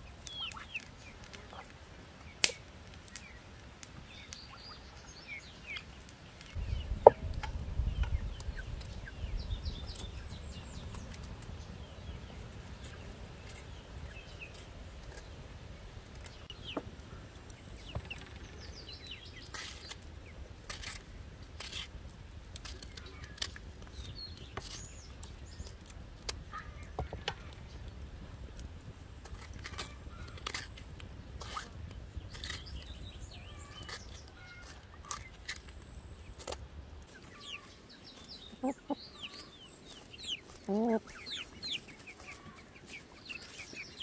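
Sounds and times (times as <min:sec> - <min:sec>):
birds chirping: 0:00.0 - 0:21.0, 0:29.3 - 0:44.0.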